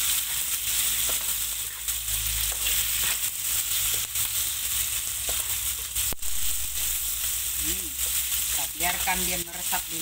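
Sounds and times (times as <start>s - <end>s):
meat sizzling in a wok: 0.0s - 10.0s.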